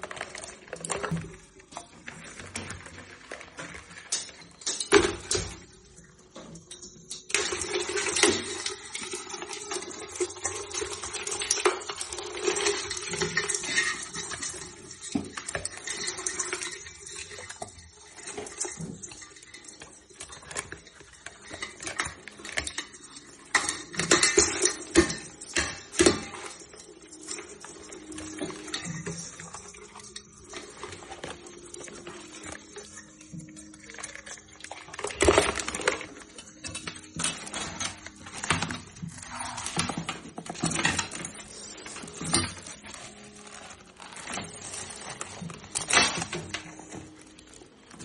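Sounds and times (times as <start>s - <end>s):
crabs clattering in metal pot: 0.0s - 48.0s.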